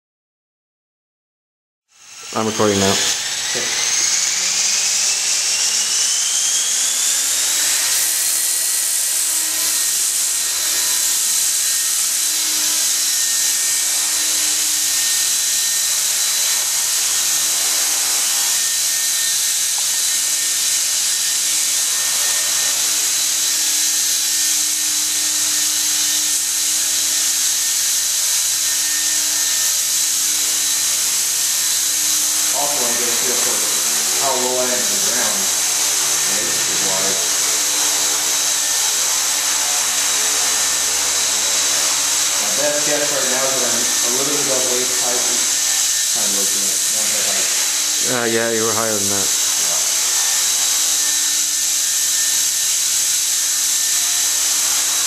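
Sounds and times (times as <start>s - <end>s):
rc helicopter rotor whine: 1.9s - 55.0s.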